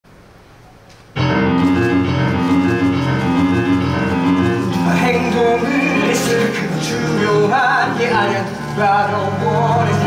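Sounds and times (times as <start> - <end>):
piano accompaniment: 1.2 - 10.0.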